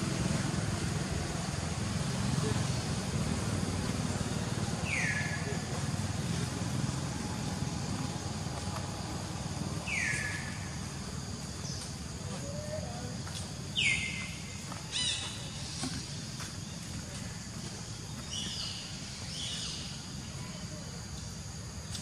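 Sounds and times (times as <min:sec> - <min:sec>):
low outdoor rumble: 0:00.0 - 0:21.7.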